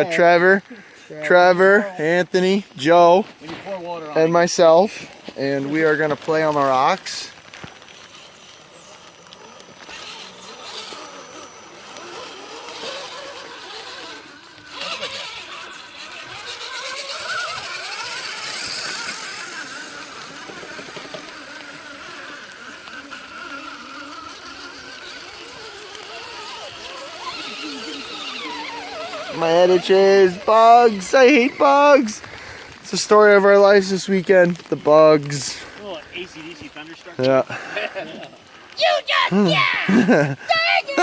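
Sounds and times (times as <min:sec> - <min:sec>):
rc car electric motors whining: 0:00.0 - 0:41.0.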